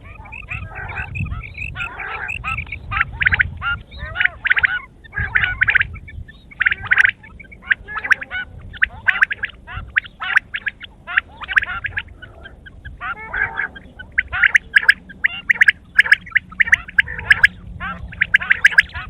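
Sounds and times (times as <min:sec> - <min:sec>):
quail calling: 0:00.0 - 0:19.0.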